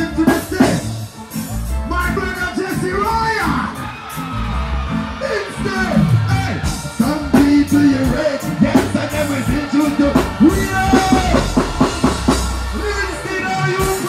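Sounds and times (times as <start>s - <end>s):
reggae band drums and bass: 0.0s - 14.0s.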